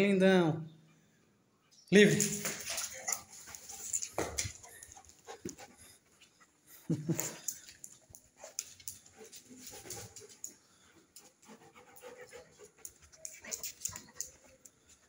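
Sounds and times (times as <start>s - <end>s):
claws clicking on tiled floor: 2.0s - 6.3s, 6.9s - 15.0s
dog panting: 2.5s - 15.0s.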